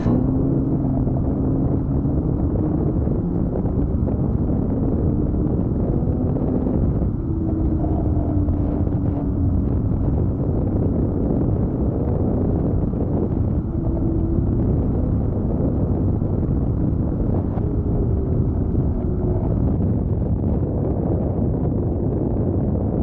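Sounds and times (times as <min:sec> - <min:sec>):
snowmobile engine rumbling: 0:00.0 - 0:23.0
wind noise on microphone: 0:00.0 - 0:23.0.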